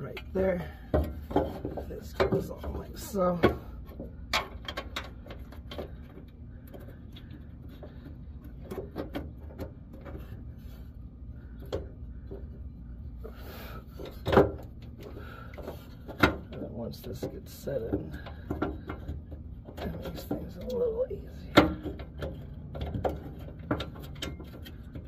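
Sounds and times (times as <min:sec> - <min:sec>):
metal clicks and knocks: 0:00.0 - 0:10.4, 0:13.9 - 0:25.0
low background hum: 0:00.0 - 0:25.0.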